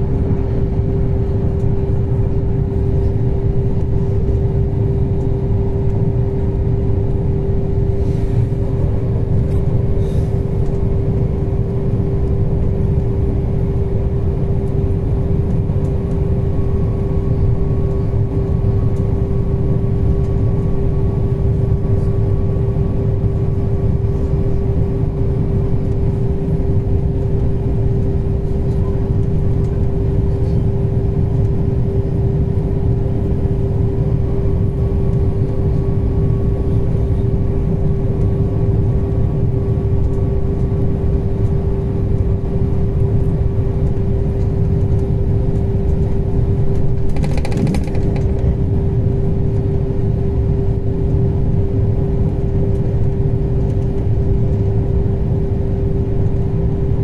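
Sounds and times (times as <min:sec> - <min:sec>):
train rumble from on board: 0:00.0 - 0:51.4
constant hum: 0:00.0 - 0:57.0.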